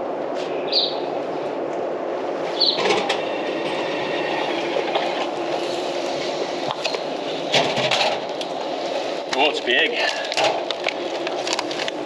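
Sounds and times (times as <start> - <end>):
vending machine mechanism humming: 2.1 - 12.0.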